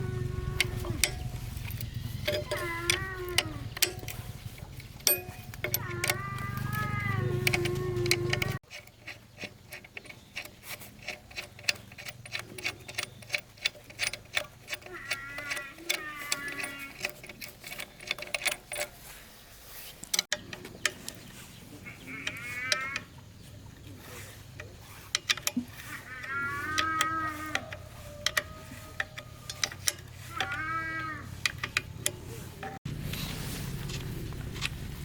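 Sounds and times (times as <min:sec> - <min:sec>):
drawn-out mooing animal calls: 0:00.0 - 0:08.6, 0:09.2 - 0:18.9, 0:21.4 - 0:32.8.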